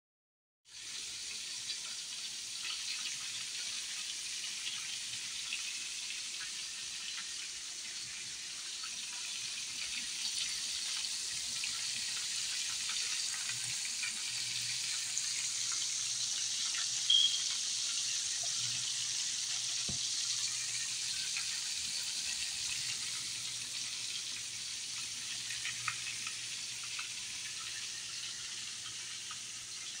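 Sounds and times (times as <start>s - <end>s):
oil sizzling in a frying pan: 0.7s - 30.0s.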